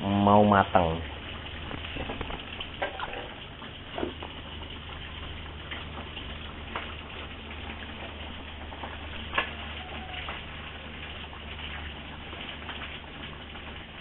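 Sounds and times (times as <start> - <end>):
low steady hum: 0.0 - 14.0
sauce bubbling in a wok: 0.6 - 14.0.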